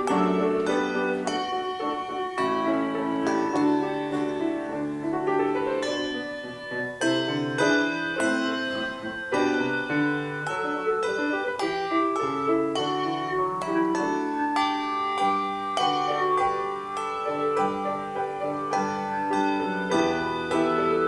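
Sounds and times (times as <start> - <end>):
handbells ringing: 0.0 - 21.0.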